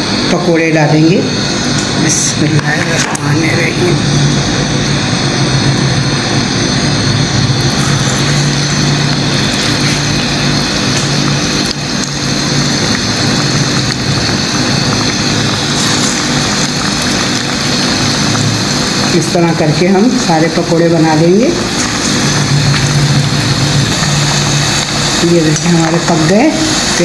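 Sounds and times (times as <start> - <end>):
batter sizzling in hot oil: 0.0 - 27.0
steady low hum: 0.0 - 27.0.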